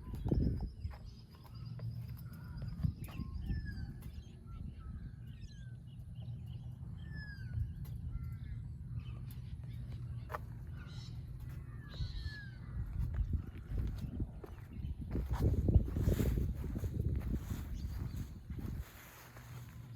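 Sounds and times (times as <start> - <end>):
birds chirping: 0.0 - 19.9
steady low rumble: 0.0 - 19.9.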